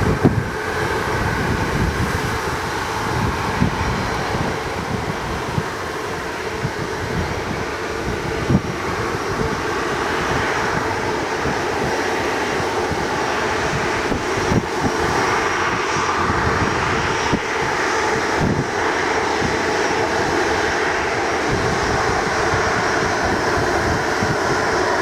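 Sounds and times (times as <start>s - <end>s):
jet engine noise: 0.0s - 25.0s
wind buffeting microphone: 0.0s - 25.0s.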